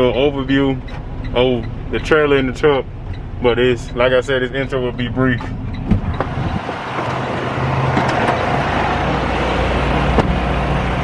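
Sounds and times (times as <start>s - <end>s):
diesel engine idling: 0.0s - 11.0s
outdoor noise: 0.0s - 11.0s.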